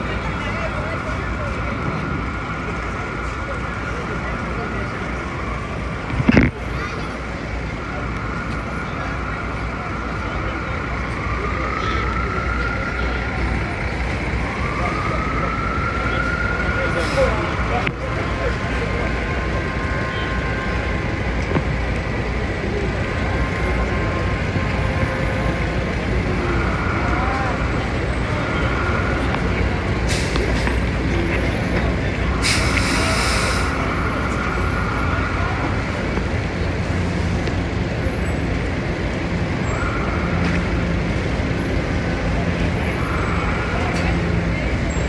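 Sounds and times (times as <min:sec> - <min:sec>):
city traffic rumble: 0:00.0 - 0:45.0.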